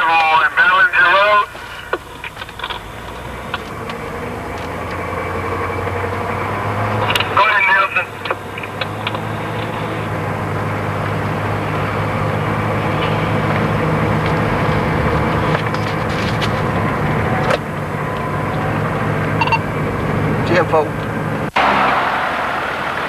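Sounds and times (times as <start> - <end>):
road noise: 0.0 - 23.0
vehicle engine running: 0.0 - 23.0.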